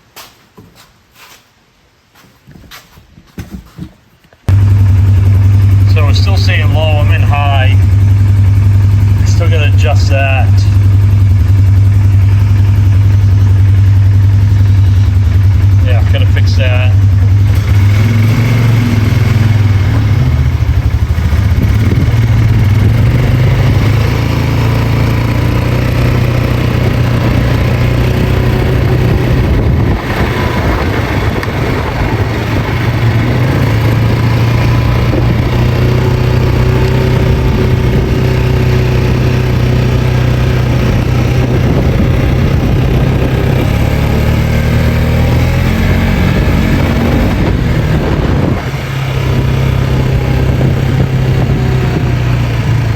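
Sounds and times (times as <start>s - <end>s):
atv engine running: 4.5s - 52.9s.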